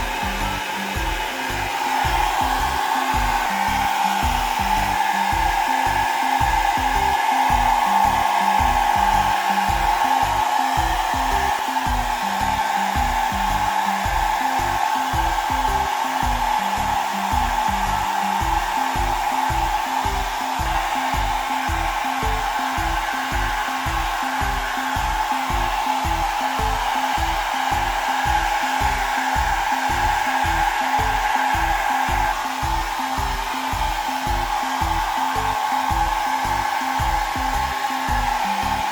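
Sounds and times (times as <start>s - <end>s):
background music with beat: 0.0s - 38.9s
hair dryer blowing: 0.0s - 38.9s.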